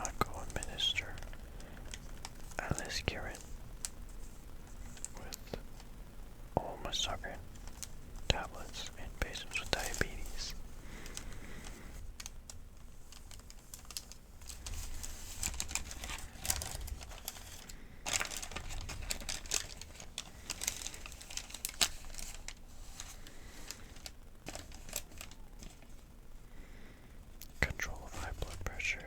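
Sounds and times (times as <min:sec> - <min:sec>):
paper crinkling: 0:00.0 - 0:05.9, 0:06.6 - 0:26.1.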